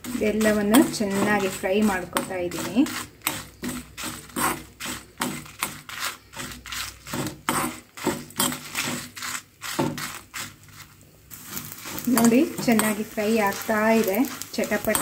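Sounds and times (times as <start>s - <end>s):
metal spoon scraping roasting spices: 0.0s - 15.0s.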